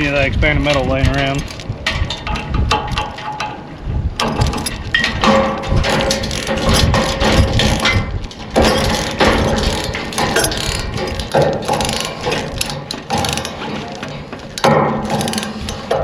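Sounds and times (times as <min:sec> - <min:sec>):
metal on metal clattering: 0:01.4 - 0:16.0.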